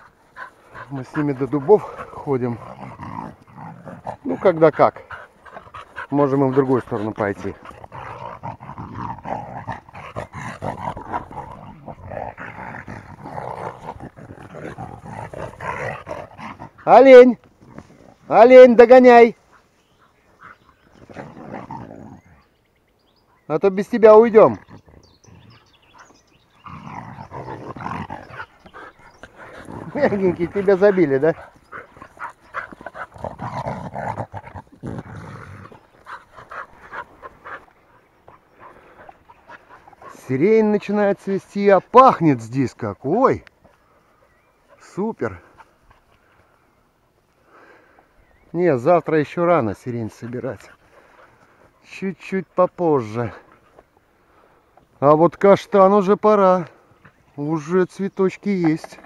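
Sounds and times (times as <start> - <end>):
dogs growling: 0.0 - 18.8, 19.4 - 22.6, 23.8 - 46.9, 47.5 - 59.0.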